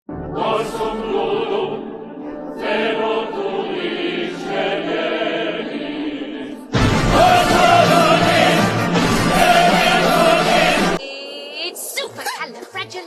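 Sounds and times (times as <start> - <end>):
operatic choir singing: 0.1 - 11.5.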